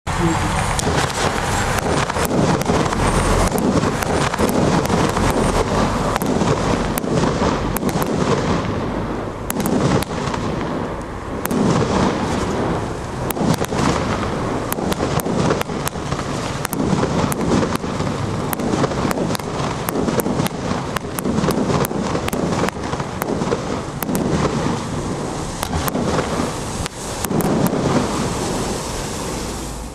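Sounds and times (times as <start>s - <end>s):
fireworks shots and aerial bursts: 0.0s - 29.9s
fireworks pops and crackles: 0.2s - 29.9s.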